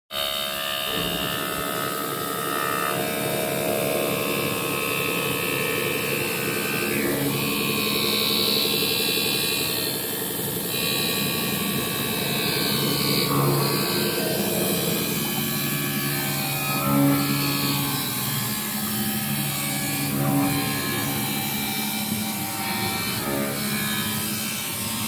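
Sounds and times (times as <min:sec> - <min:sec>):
glass grinding machine whining: 0:00.2 - 0:25.0.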